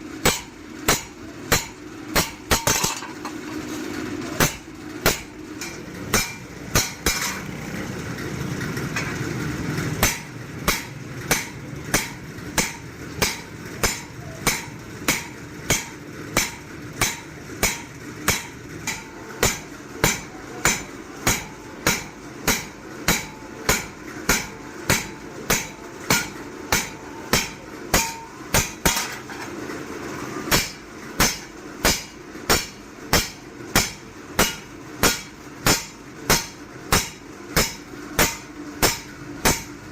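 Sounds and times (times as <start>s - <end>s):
hammer striking blade on anvil: 0.2s - 3.4s, 4.4s - 7.5s, 10.0s - 29.5s, 30.5s - 39.8s.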